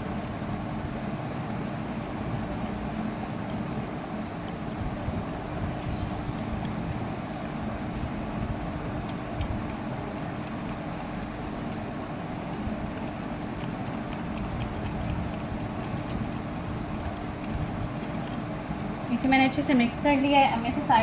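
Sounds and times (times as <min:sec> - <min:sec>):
whisk beating mixture in bowl: 0:00.0 - 0:20.2
steady background hum: 0:00.0 - 0:21.0.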